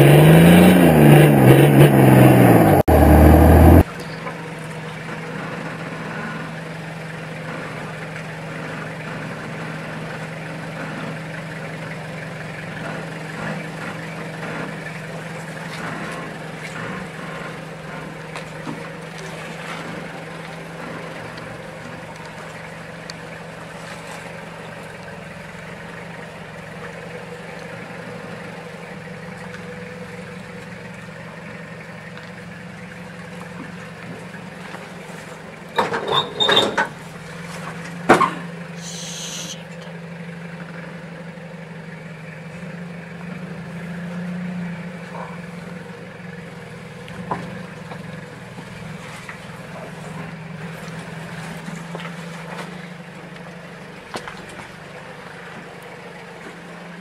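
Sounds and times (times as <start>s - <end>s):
vehicle engine running at low revs: 0.0s - 35.9s, 36.9s - 57.0s.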